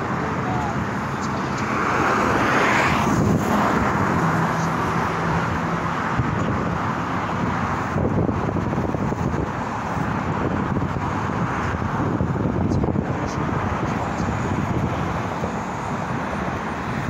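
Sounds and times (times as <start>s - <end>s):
vehicle passing: 0.0s - 17.0s
wind noise on microphone: 0.0s - 17.0s.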